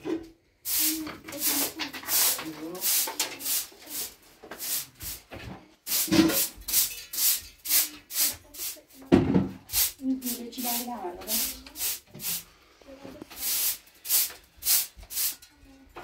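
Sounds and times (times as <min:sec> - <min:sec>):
broom sweeping a gritty floor: 0:00.6 - 0:12.6, 0:13.2 - 0:15.4.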